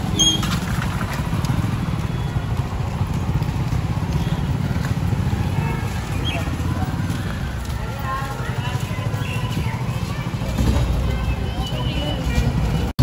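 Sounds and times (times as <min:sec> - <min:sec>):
motorcycle and vehicle engines rumbling: 0:00.0 - 0:13.0.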